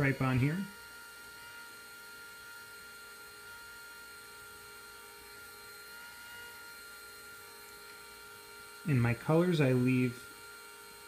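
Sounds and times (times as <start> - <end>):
faint electric motor hum: 0.0 - 11.0.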